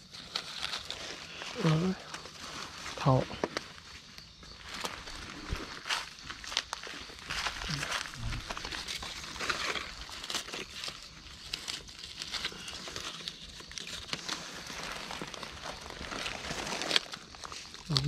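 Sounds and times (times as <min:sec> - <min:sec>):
leaf litter and twigs rustling: 0:00.0 - 0:18.0.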